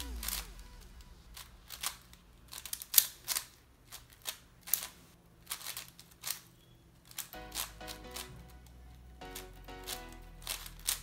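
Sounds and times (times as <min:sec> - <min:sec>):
puzzle cube plastic clacking: 0:00.0 - 0:11.0.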